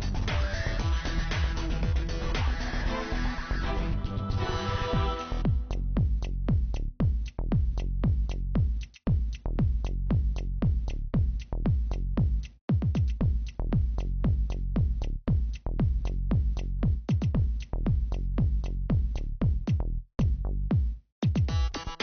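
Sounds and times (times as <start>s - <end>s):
electronic music with kick drum: 0.0s - 22.0s.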